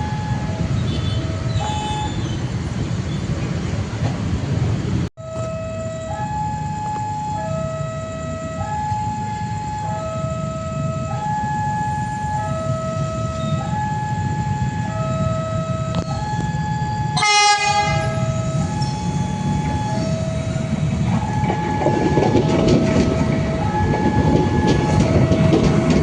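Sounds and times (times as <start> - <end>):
two-tone electronic warning alarm: 0.0 - 2.4, 5.2 - 26.0.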